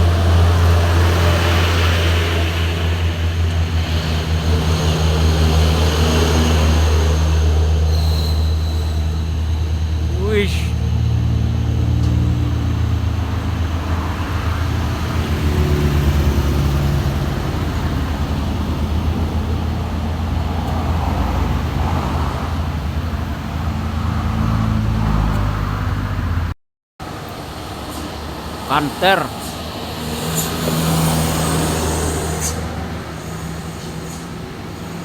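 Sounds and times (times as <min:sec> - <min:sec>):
diesel truck engine labouring: 0:00.0 - 0:35.0.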